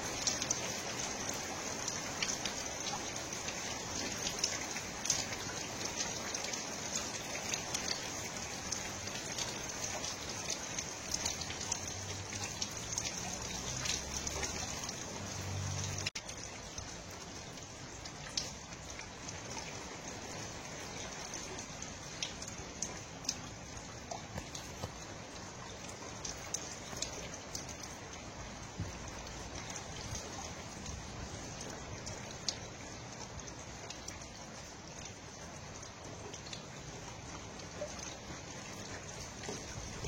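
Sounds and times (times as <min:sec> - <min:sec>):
steady rain with drops ticking: 0:00.0 - 0:40.0.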